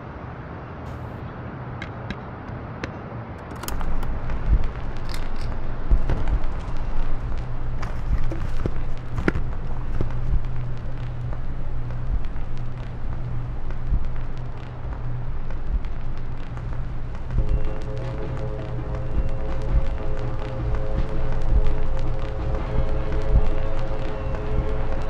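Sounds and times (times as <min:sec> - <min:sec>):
record player hum: 0:03.4 - 0:25.0
vinyl crackles and pops: 0:03.6 - 0:25.0.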